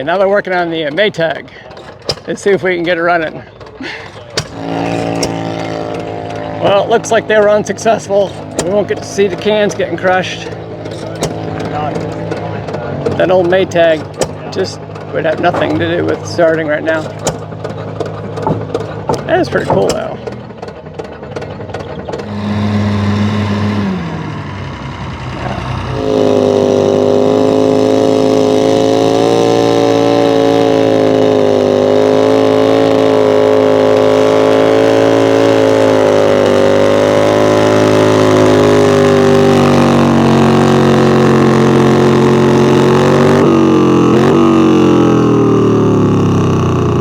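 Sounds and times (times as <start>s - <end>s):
engine running hard: 0.0s - 47.0s
low hum: 4.3s - 20.5s, 22.1s - 47.0s.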